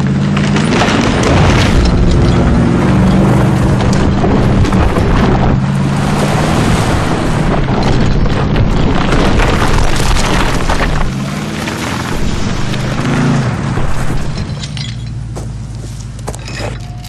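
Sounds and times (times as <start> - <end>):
log scraping over dirt: 0.0 - 17.0
truck engine rumbling under load: 0.0 - 17.0.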